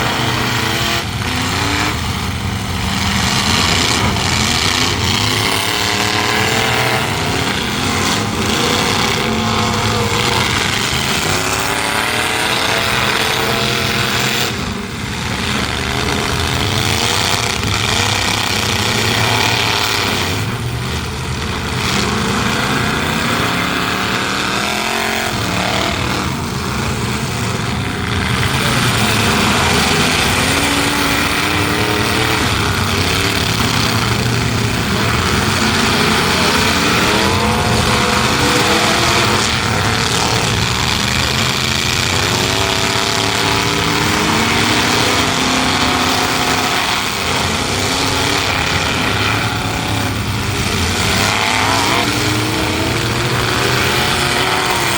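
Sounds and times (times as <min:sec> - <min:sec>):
truck engines revving: 0:00.0 - 0:54.9.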